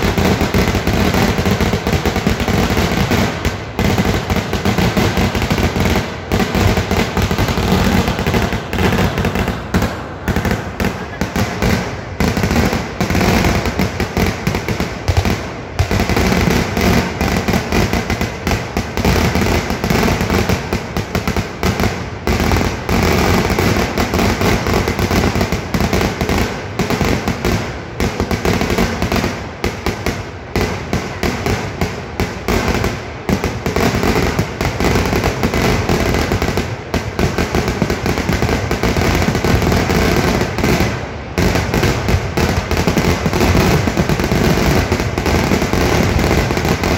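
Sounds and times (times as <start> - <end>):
fireworks bangs and cracks: 0.0 - 46.9.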